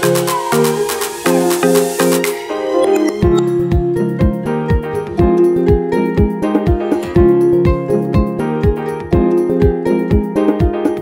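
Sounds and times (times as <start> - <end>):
held synth notes: 0.0 - 9.3.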